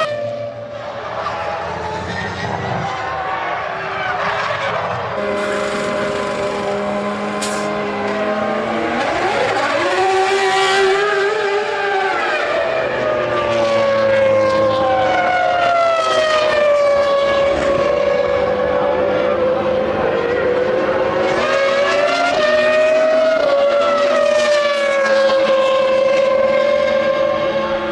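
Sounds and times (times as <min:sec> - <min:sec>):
racing car engines at high revs: 0:00.7 - 0:27.9.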